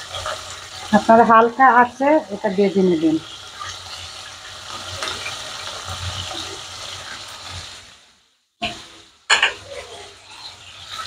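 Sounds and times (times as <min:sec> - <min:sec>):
prawns sizzling in hot oil: 0:00.0 - 0:11.0.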